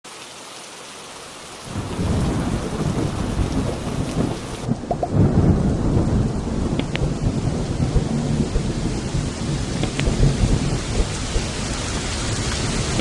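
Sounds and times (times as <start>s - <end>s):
steady rain: 0.0s - 13.0s
thunder rumbling: 1.7s - 13.0s.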